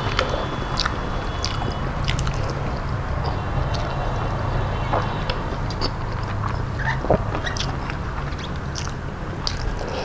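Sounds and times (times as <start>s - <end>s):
wet chewing and lip-smacking: 0.0s - 4.3s, 4.9s - 10.0s
steady low hum: 0.0s - 10.0s.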